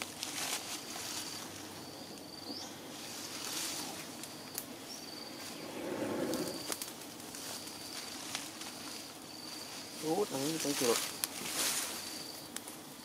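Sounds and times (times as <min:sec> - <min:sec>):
insect calling: 0:00.0 - 0:13.0.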